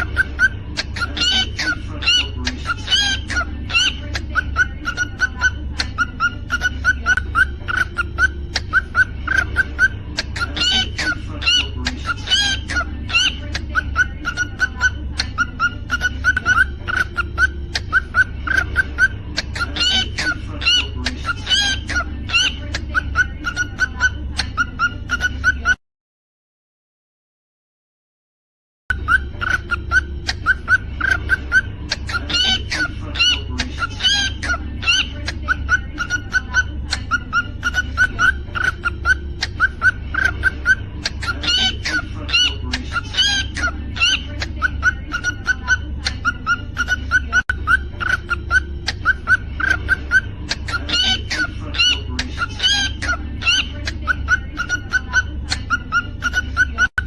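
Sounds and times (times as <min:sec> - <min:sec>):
low steady hum: 0:00.0 - 0:25.7, 0:28.9 - 0:57.0
cockatiel chirping and whistling: 0:00.0 - 0:25.8, 0:28.9 - 0:57.0.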